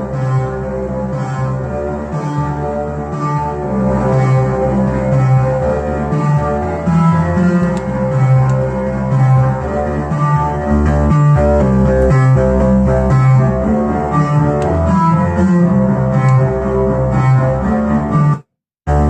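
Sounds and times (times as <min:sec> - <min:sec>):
pulsing synthesizer bass line: 0:00.0 - 0:19.0
sustained synthesizer notes: 0:00.0 - 0:19.0.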